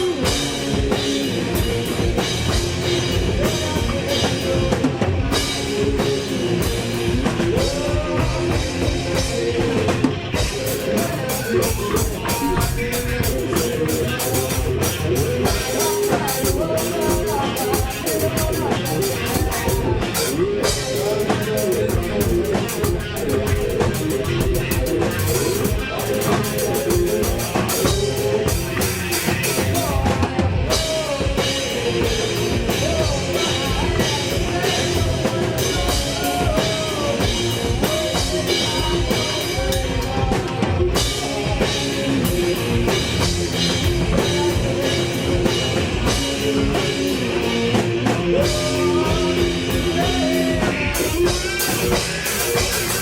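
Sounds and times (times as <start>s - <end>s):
drum kit beat: 0.0s - 53.0s
electric guitar: 0.0s - 53.0s
rock band playing: 0.0s - 53.0s.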